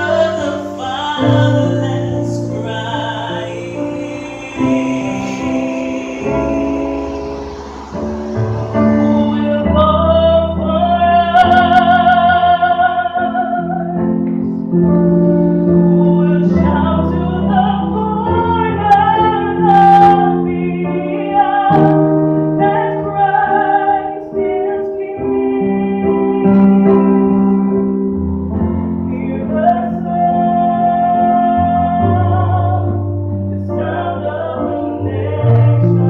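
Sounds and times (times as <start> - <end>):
choir singing gospel: 0.0 - 27.9, 29.2 - 36.0.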